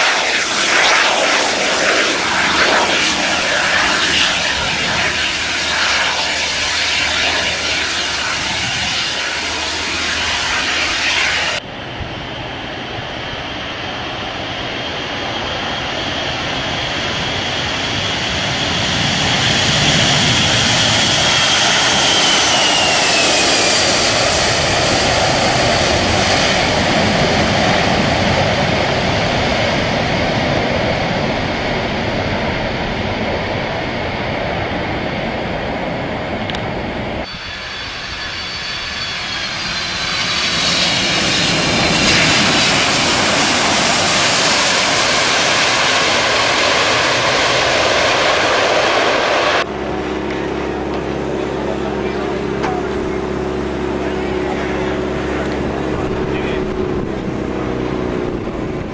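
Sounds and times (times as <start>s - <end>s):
high whine sliding down: 0.0s - 58.9s
jet engine noise: 0.0s - 58.9s.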